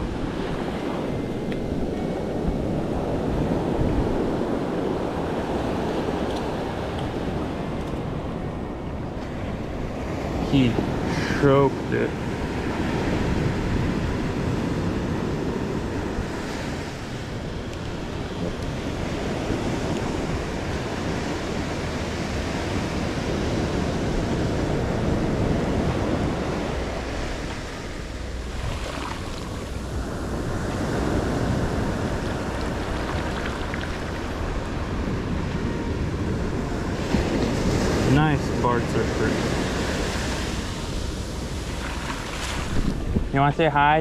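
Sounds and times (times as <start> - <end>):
ocean surf on beach: 0.0 - 44.0
wind buffeting microphone: 0.0 - 44.0.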